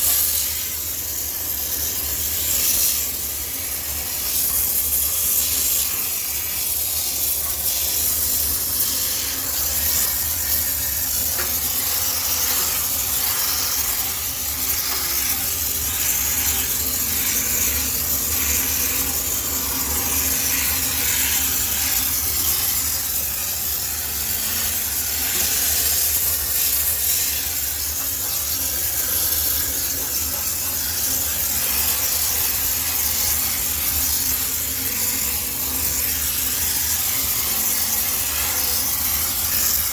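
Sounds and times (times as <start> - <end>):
steam jet hissing: 0.0 - 39.9.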